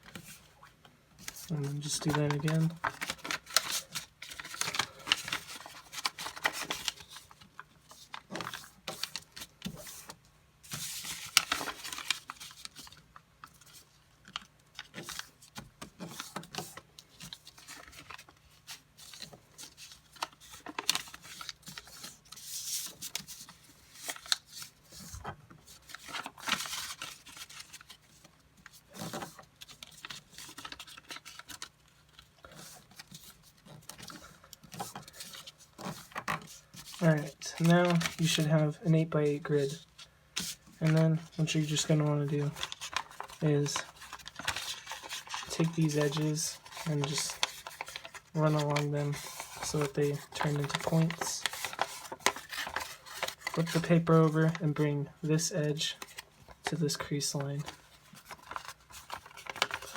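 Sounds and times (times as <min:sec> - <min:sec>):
paper rustling and crinkling: 0:00.0 - 0:59.9.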